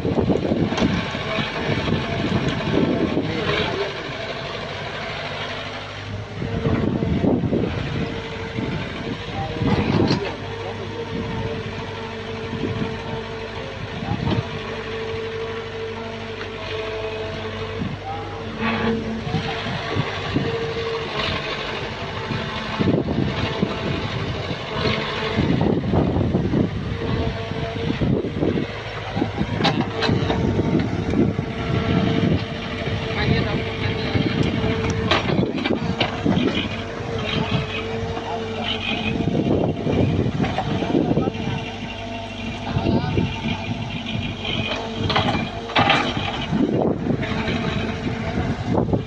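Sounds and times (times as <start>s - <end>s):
excavator engine under load: 0.0s - 49.0s.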